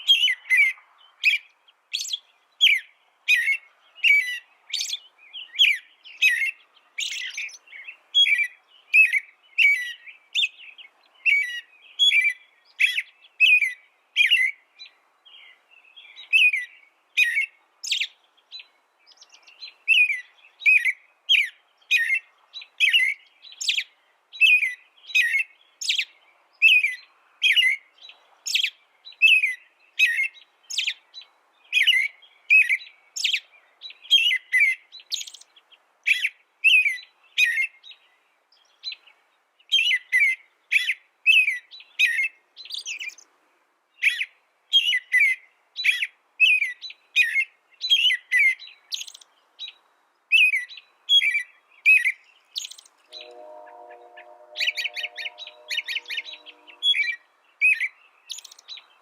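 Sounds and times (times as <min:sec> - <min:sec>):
songbird chirping: 0:00.0 - 0:43.4, 0:44.0 - 0:59.0.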